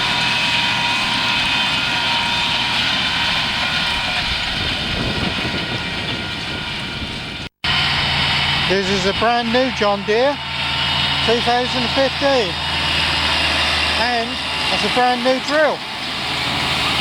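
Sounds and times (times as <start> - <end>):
high whine: 0.0 - 17.0
tractor engine drone: 0.0 - 17.0.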